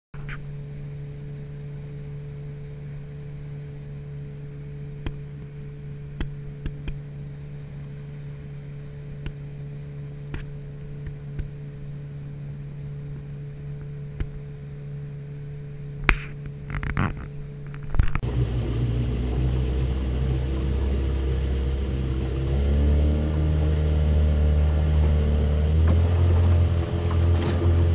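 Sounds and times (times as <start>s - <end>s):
boat motor running: 0.2s - 27.9s.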